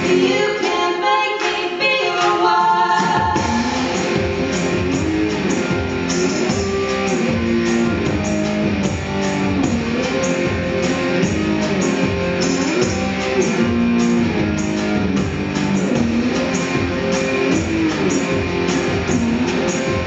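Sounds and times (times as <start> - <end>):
drum kit light steady beat: 3.0 - 20.0.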